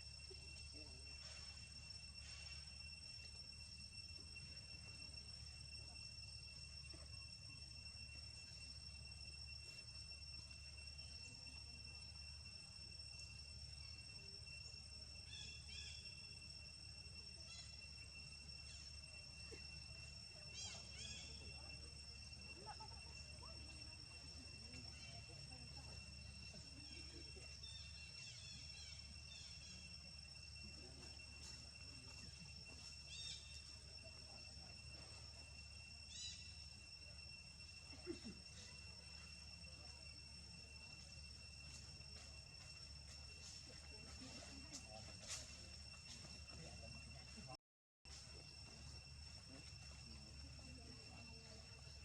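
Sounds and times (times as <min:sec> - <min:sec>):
faint insect trilling: 0:00.0 - 0:52.0.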